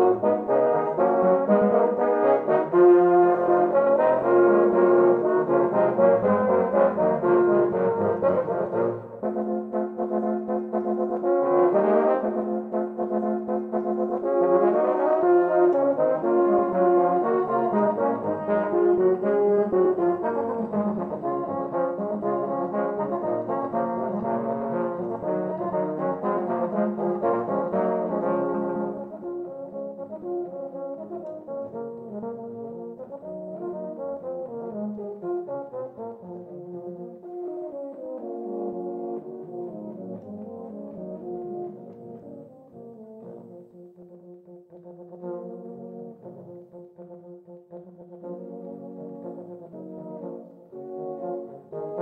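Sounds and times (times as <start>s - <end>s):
euphoniums playing in harmony: 0.0s - 43.8s.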